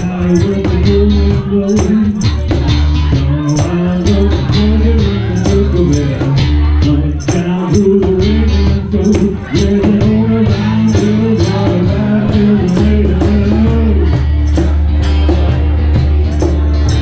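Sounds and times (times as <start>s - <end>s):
acoustic band music: 0.0s - 17.0s
cajon beat: 0.0s - 17.0s.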